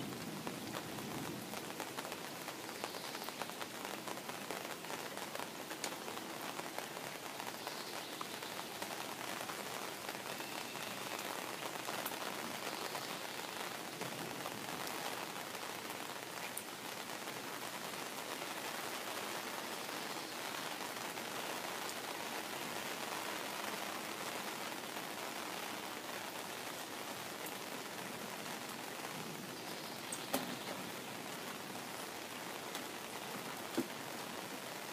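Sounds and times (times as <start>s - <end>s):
rain on pond water: 0.0s - 34.9s.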